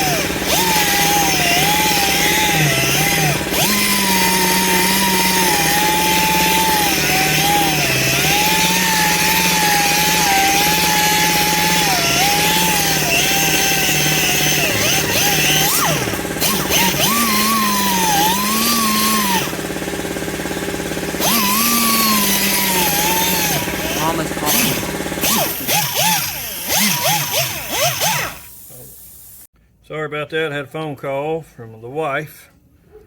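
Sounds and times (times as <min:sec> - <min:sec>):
sander motor whine: 0:00.0 - 0:29.5.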